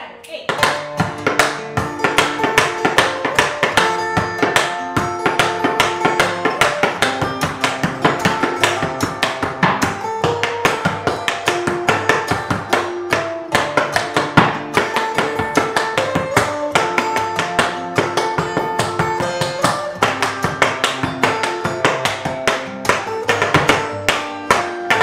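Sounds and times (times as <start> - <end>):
tap shoes on wooden board: 0.5 - 25.0
acoustic guitar plucked notes: 0.6 - 25.0.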